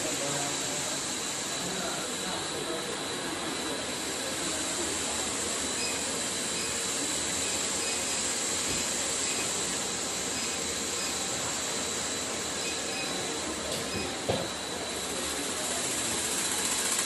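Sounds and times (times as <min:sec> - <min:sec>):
cooling fan hiss and whine: 0:00.0 - 0:17.0.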